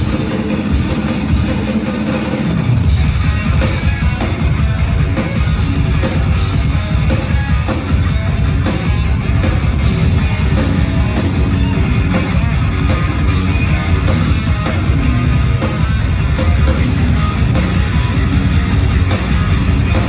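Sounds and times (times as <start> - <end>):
drum kit: 0.0 - 20.0
electric guitars: 0.0 - 20.0.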